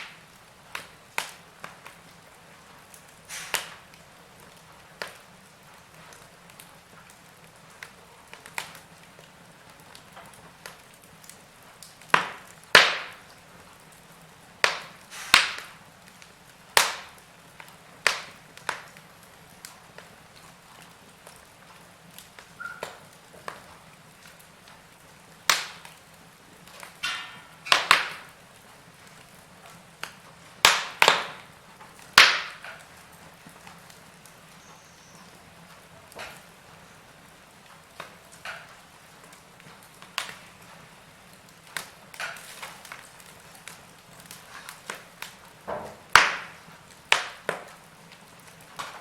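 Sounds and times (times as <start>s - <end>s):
faint steady hiss: 0.0s - 49.0s
wood fire crackling: 0.0s - 49.0s.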